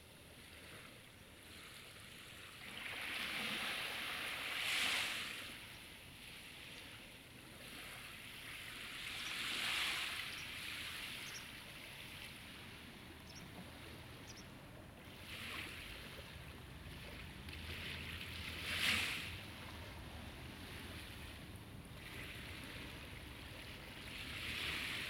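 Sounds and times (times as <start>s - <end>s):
small waves washing onto shore: 0.0s - 25.0s.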